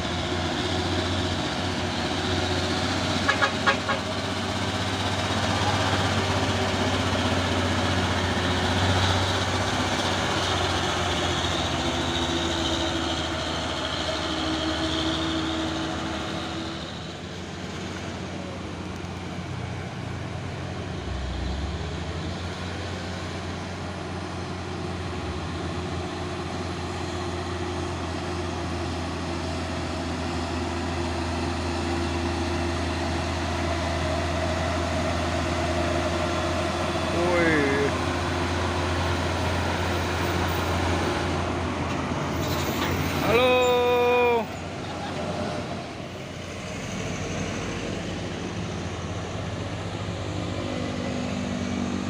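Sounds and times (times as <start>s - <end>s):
heavy truck engine droning: 0.0s - 52.0s.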